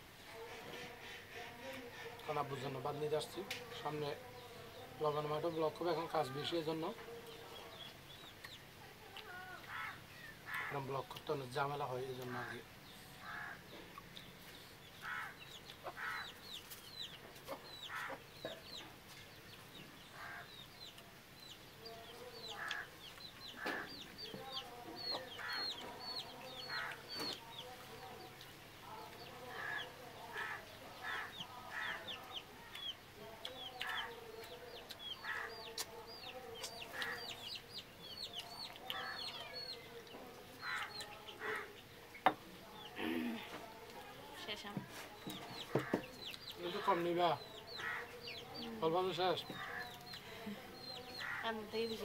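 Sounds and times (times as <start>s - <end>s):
birds chirping: 0.0s - 52.0s
birds clucking: 0.0s - 52.0s.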